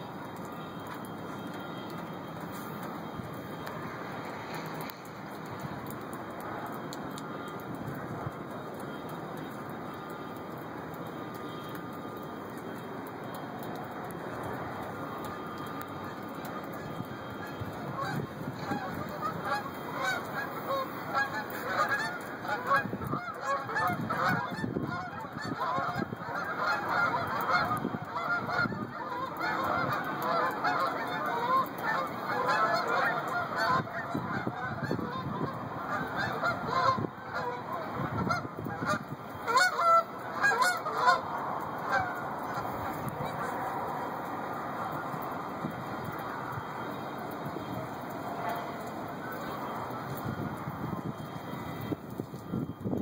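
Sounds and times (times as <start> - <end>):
geese honking: 0.3 - 5.1, 8.4 - 52.0.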